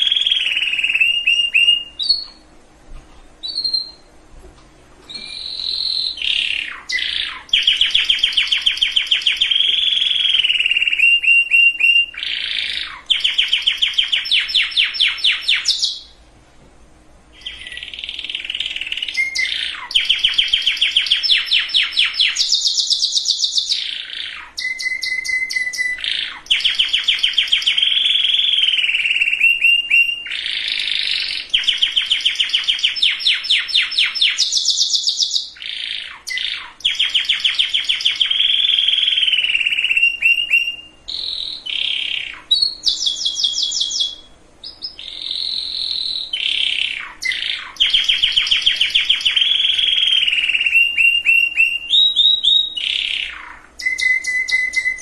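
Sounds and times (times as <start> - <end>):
canary singing trills: 0.0 - 2.6, 3.3 - 4.2, 5.0 - 16.2, 17.3 - 55.0.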